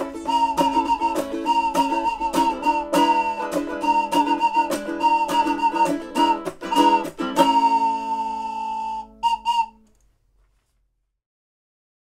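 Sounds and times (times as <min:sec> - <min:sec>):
ukulele strumming: 0:00.0 - 0:09.9
whistle blowing: 0:00.0 - 0:10.0.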